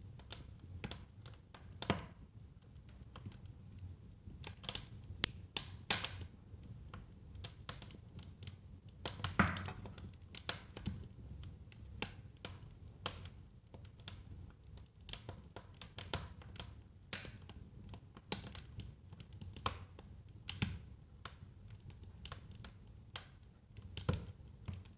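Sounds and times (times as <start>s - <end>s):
wood fire crackling and popping: 0.0s - 24.9s.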